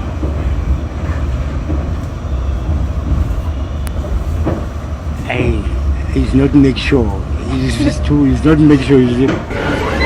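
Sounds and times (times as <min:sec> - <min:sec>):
subway train rumbling: 0:00.0 - 0:10.0.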